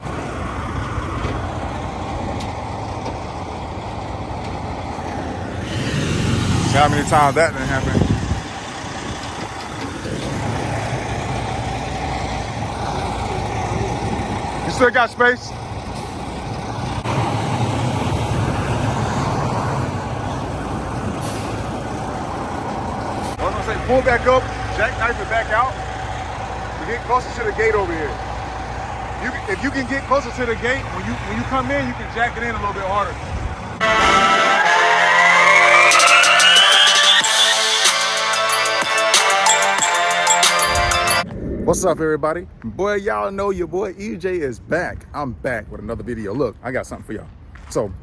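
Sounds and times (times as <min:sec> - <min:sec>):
truck diesel engine rumbling: 0:00.0 - 0:48.0.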